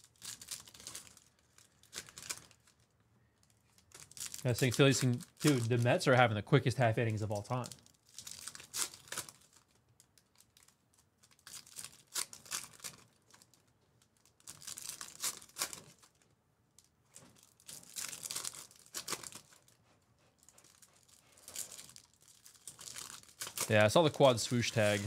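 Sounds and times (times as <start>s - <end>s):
foil wrappers crinkling and tearing: 0.0s - 6.3s, 7.0s - 19.8s, 20.4s - 25.0s.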